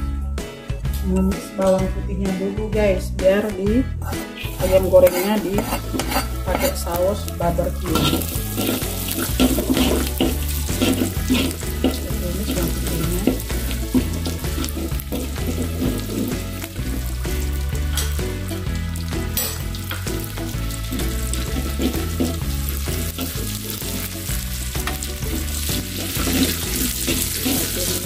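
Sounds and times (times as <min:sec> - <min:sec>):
metal spatula scraping a wok: 0:04.0 - 0:18.2, 0:19.4 - 0:28.0
garlic sizzling in hot oil: 0:04.4 - 0:28.0.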